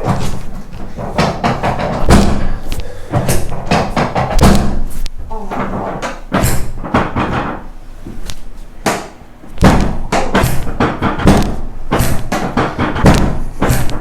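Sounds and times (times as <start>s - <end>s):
thumps and knocks on a body: 0.0s - 14.0s.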